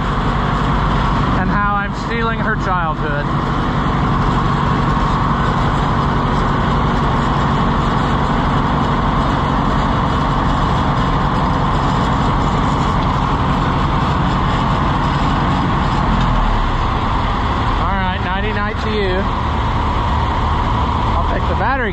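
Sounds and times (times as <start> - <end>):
tractor engines idling: 0.0 - 21.9.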